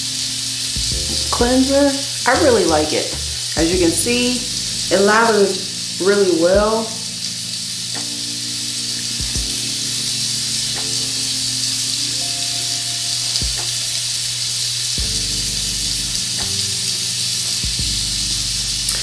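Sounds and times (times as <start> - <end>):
soft background music: 0.0 - 19.0
steady high hiss: 0.0 - 19.0.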